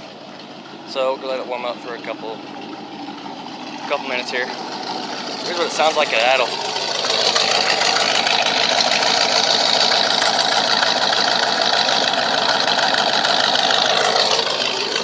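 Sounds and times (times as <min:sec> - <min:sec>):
pickup truck engine idling: 0:00.0 - 0:15.0.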